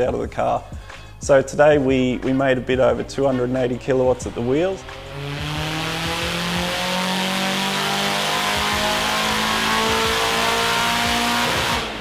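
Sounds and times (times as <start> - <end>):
car engine revving under load: 2.1 - 12.0.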